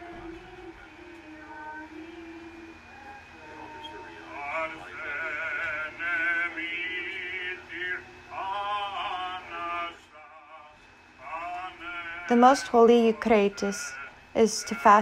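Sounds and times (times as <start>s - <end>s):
person singing with vibrato: 0.0s - 15.0s.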